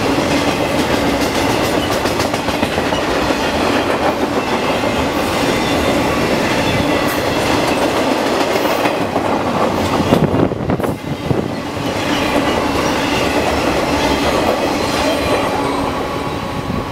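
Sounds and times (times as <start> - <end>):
train rolling along rails: 0.0 - 16.9.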